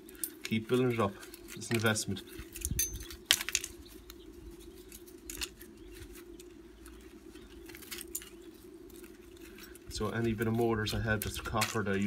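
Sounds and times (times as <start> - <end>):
steady low hum: 0.0 - 12.0
wire rustling and snapping: 0.0 - 12.0.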